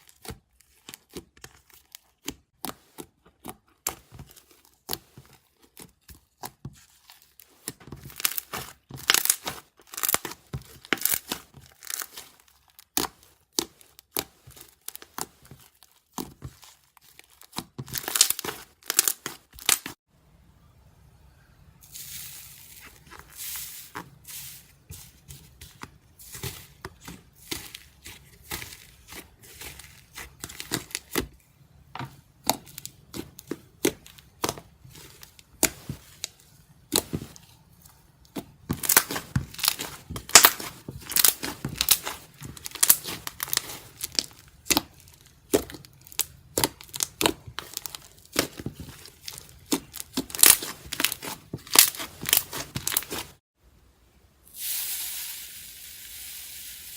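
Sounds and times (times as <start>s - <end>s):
slime crackling and crunching: 3.8s - 20.0s, 21.9s - 31.4s, 32.0s - 53.4s.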